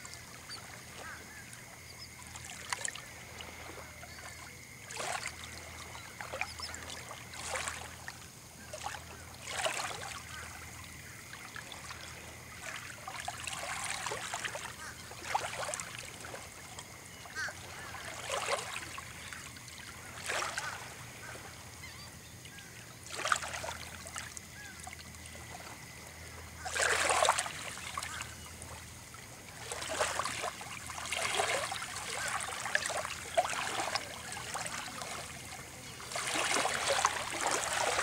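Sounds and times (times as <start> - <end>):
small waves lapping on sand: 0.0 - 38.0.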